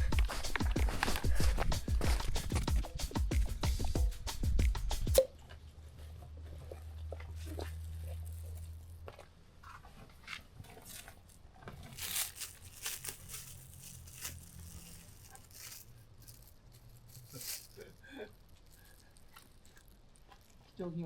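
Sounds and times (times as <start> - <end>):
crinkling and tearing rustles: 0.0 - 2.7, 5.5 - 21.0.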